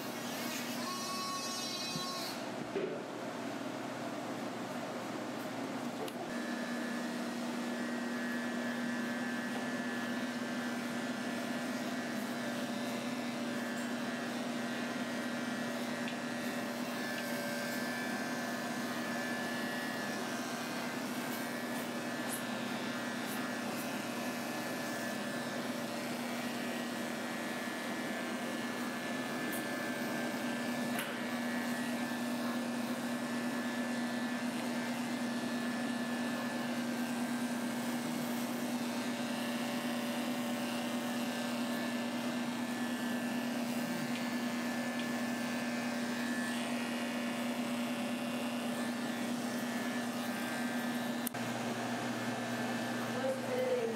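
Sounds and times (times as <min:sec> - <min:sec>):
electric clippers humming: 0:00.0 - 0:02.6, 0:05.2 - 0:53.9.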